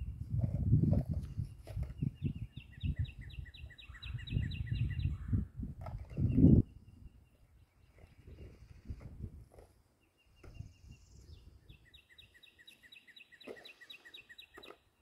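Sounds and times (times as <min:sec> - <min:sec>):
songbird singing: 0:01.0 - 0:15.0.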